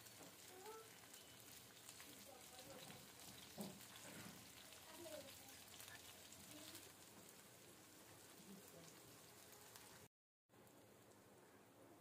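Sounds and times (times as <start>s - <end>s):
prawns sizzling in oil: 0.0s - 12.0s.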